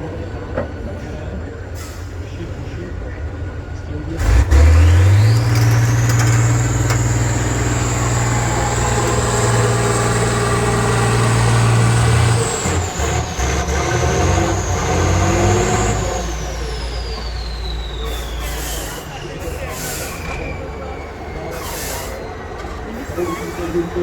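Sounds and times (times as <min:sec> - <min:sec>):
diesel engine revving: 0:03.9 - 0:24.0.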